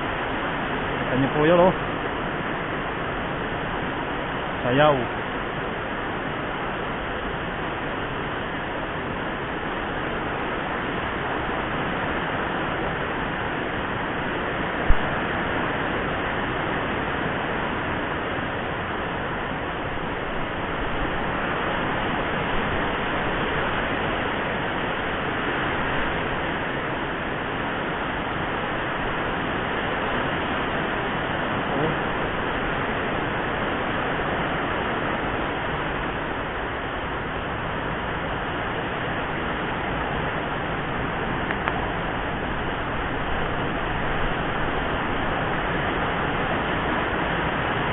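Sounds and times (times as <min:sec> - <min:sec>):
rain and wind rushing: 0:00.0 - 0:47.9.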